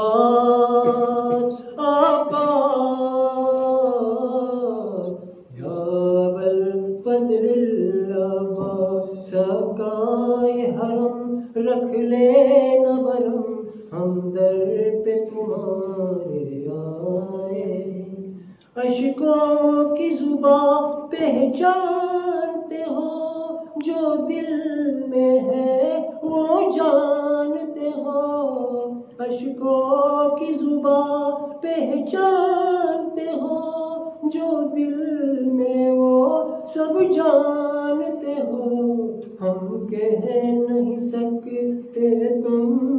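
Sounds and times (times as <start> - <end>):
man chanting unaccompanied: 0.0 - 42.9.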